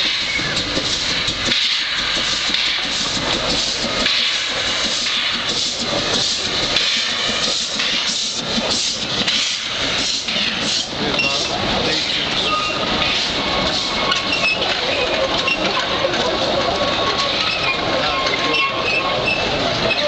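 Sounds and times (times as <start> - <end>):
steam hissing: 0.0 - 20.0
steam locomotive exhaust chuffs: 0.0 - 20.0.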